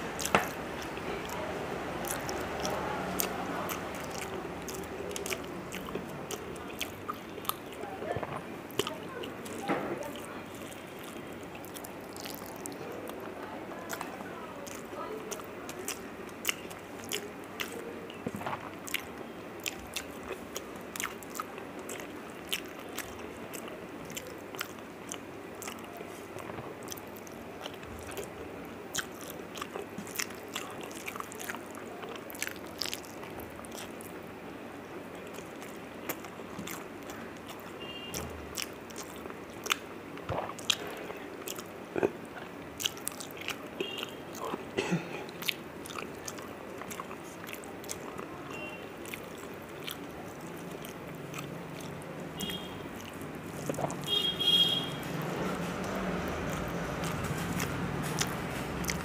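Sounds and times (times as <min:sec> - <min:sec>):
wet chewing with lip smacks: 0:00.0 - 0:34.2, 0:34.9 - 0:59.0.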